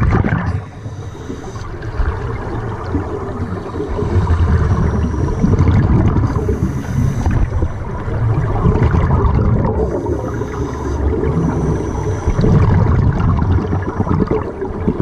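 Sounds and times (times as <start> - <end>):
exhaled bubbles rising: 0.0 - 15.0
underwater regulator breathing: 0.6 - 14.6.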